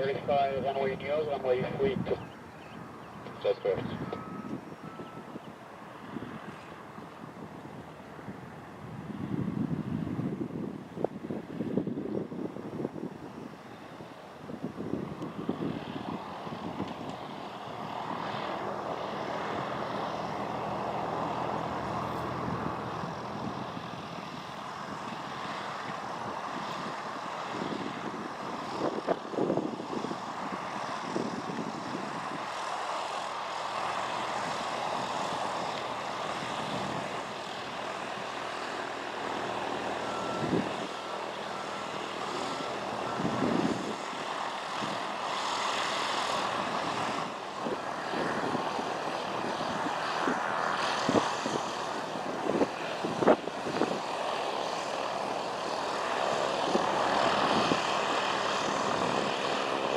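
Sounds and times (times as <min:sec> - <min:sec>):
propeller plane engine: 0:00.0 - 0:59.9.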